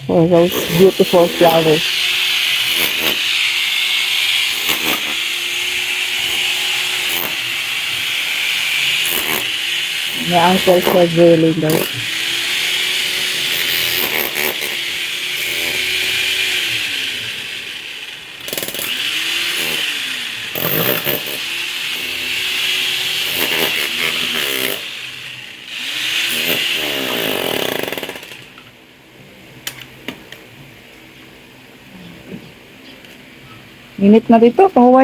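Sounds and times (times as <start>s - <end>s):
power tool motor whirring: 0.4s - 28.6s.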